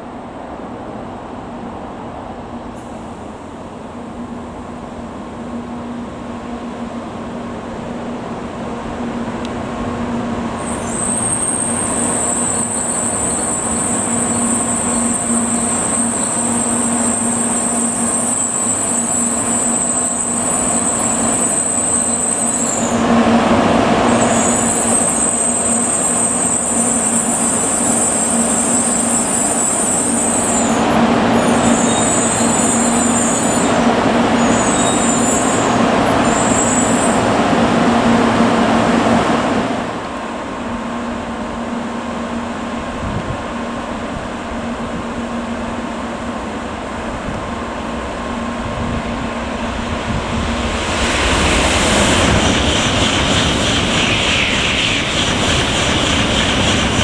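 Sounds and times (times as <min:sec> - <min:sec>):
train rushing noise: 0:00.0 - 0:57.0.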